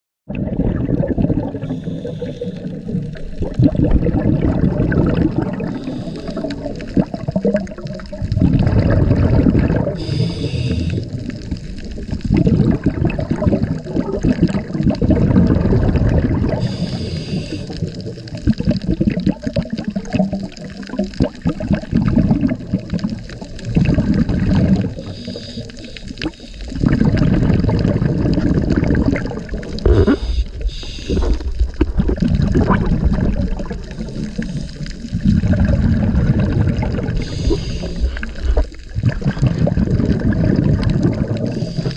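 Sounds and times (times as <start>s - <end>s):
muffled underwater water rushing: 0.3s - 41.9s.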